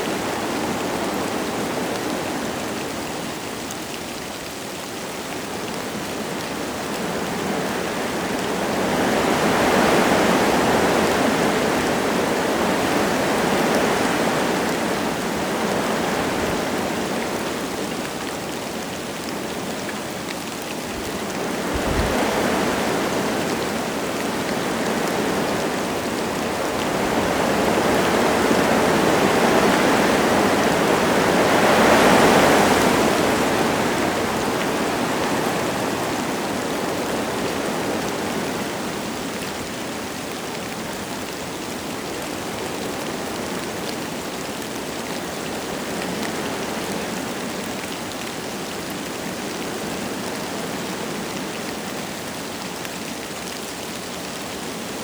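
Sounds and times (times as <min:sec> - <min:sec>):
light rain falling: 0:00.0 - 0:55.0
wind gusting through trees: 0:00.0 - 0:55.0.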